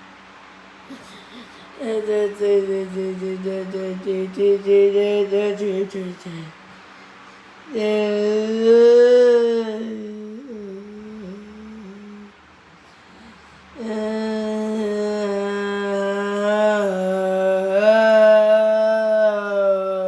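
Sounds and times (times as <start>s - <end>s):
person humming long notes: 0.9s - 6.5s, 7.7s - 12.4s, 13.1s - 20.0s.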